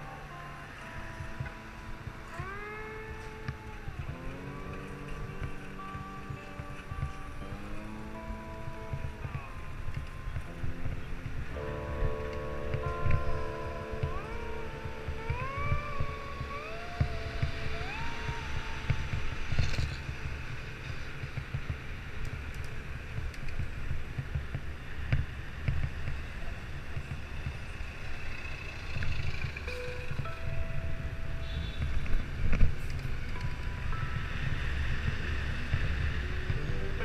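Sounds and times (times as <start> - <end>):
city traffic rumble: 0.0 - 37.0
wind buffeting microphone: 0.0 - 37.0.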